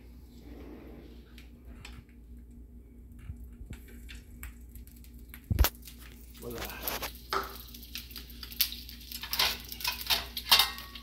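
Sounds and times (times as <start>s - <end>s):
egg cracking: 1.4s - 11.0s.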